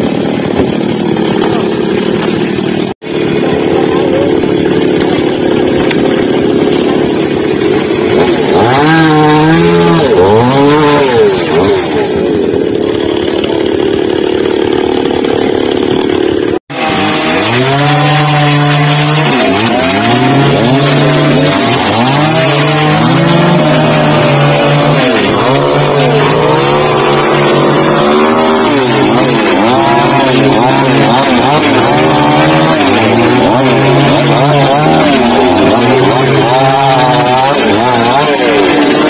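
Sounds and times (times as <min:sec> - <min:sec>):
chainsaw cutting tree trunk: 0:00.0 - 0:39.0.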